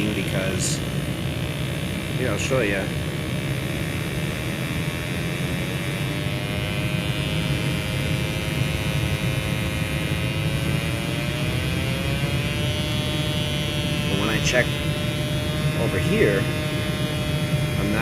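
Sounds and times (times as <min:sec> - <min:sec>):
gas furnace rushing: 0:00.0 - 0:18.0
steady furnace tone: 0:00.0 - 0:18.0.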